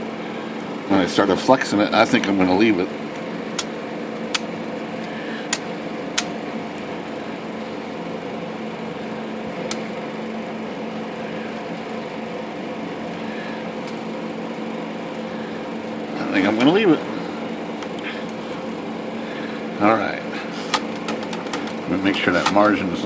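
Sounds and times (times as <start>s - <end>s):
fan hum: 0.0s - 23.0s.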